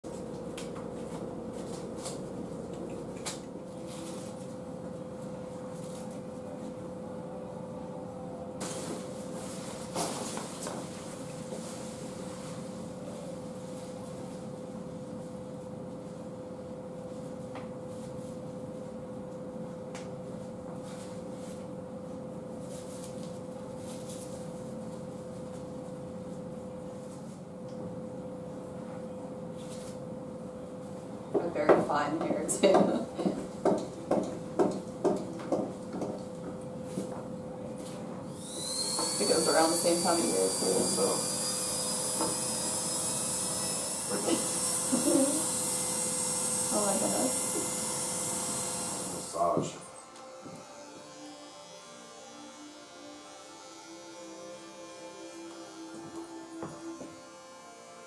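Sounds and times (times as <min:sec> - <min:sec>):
background hum: 0:00.1 - 0:58.0.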